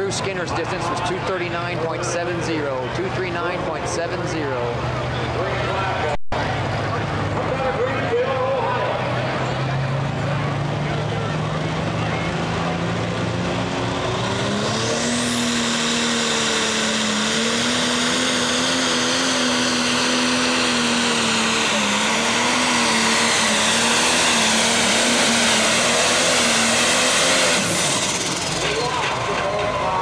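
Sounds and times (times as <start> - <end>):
diesel engine at full throttle: 0.0 - 30.0
high turbo whine: 0.0 - 30.0.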